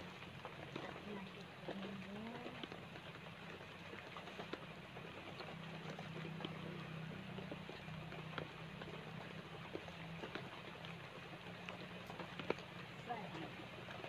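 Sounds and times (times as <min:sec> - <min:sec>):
light rain pattering on leaves: 0:00.0 - 0:14.0.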